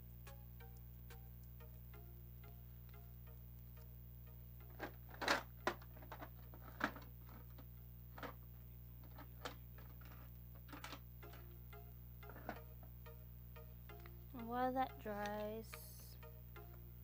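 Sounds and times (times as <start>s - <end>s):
soft background music: 0.0s - 7.4s, 9.1s - 17.0s
low steady hum: 0.0s - 17.0s.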